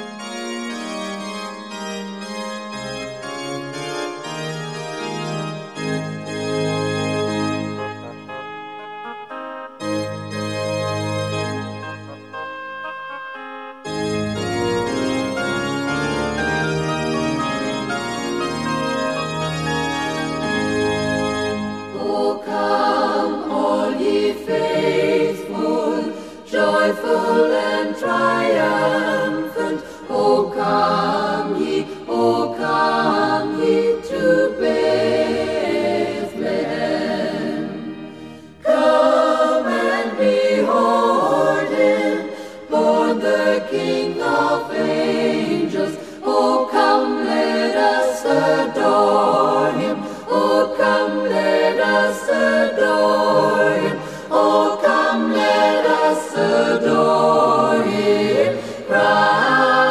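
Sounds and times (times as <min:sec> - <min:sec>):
choir singing a carol: 0:09.2 - 0:59.9.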